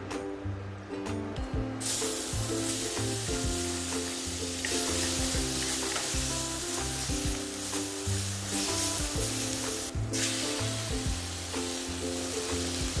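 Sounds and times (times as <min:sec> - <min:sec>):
background music: 0:00.0 - 0:13.0
food sizzling in hot oil: 0:01.8 - 0:13.0.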